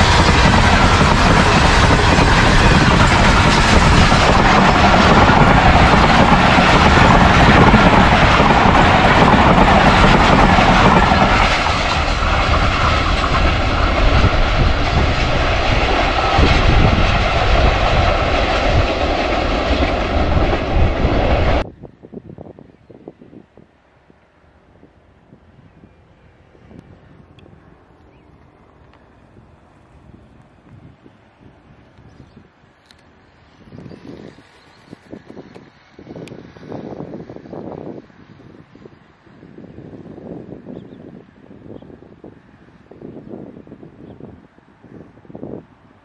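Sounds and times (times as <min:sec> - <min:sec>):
train wheels rushing on rails: 0:00.0 - 0:21.7, 0:26.2 - 0:46.0.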